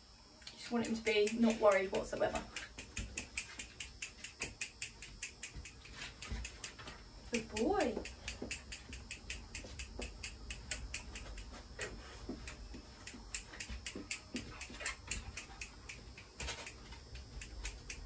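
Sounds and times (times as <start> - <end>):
nail clippers clicking: 0.4 - 11.5, 13.0 - 18.0.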